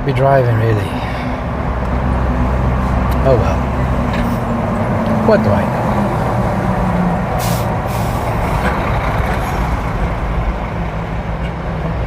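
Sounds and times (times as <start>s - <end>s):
engine drone: 0.0s - 12.0s
road noise: 0.0s - 12.0s.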